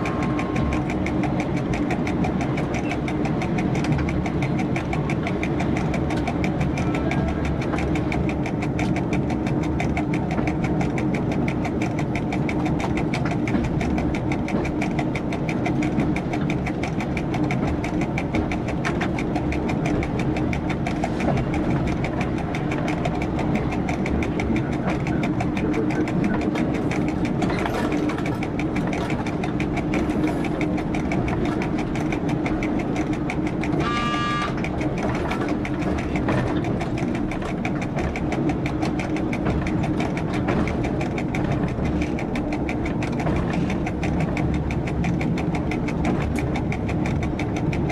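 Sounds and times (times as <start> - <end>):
train diesel engine running: 0.0 - 47.9
train rattling on track: 0.0 - 47.9.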